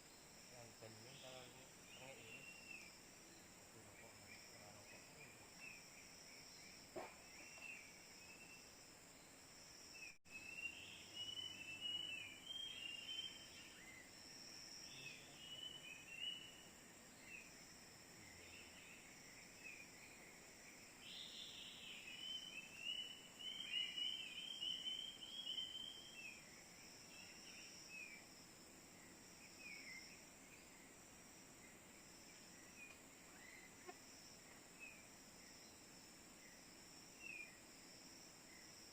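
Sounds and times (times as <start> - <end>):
forest insects droning: 0.0 - 38.9.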